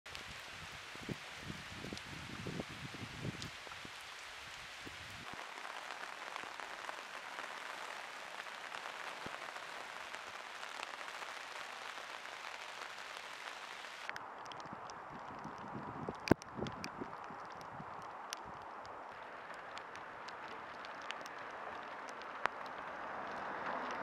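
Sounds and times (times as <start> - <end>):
rain falling on wet ground: 0.1 - 24.0.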